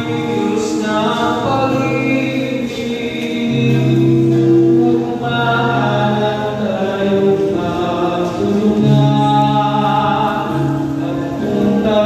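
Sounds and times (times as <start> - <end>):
slow hymn singing: 0.0 - 12.0.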